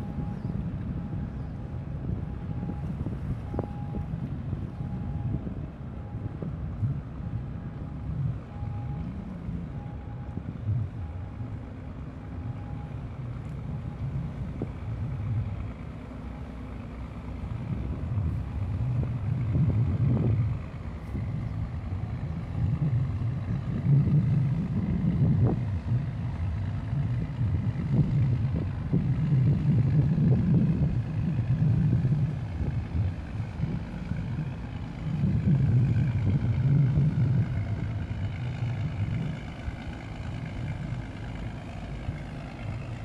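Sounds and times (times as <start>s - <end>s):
wind on microphone: 0.0s - 11.5s, 17.4s - 43.0s
boat engine rumble: 0.0s - 43.0s.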